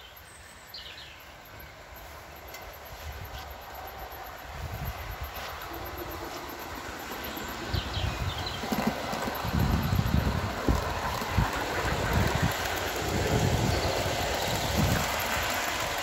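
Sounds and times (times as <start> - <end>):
model train rumbling on track: 0.0 - 16.0.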